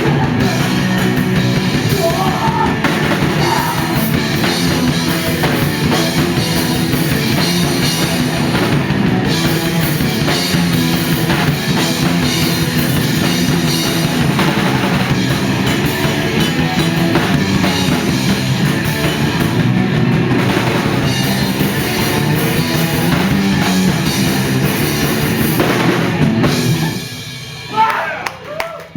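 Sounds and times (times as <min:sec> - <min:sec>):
rock band playing live: 0:00.0 - 0:28.6.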